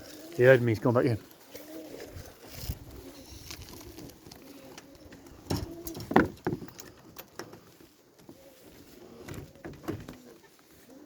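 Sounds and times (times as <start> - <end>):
pigeons cooing: 0.0 - 6.4, 8.1 - 11.0.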